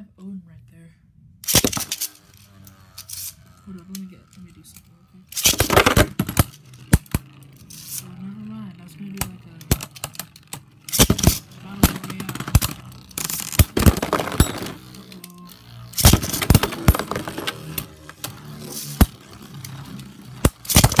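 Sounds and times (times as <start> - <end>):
spinning tops clashing: 1.4 - 3.6, 4.7 - 8.2, 9.1 - 21.0.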